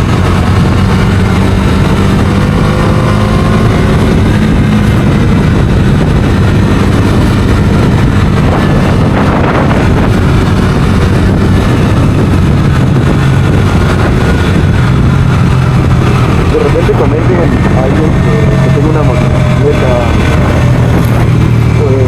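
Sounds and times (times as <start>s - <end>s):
motorcycle engine running: 0.0s - 22.0s
wind rushing over microphone: 0.0s - 22.0s.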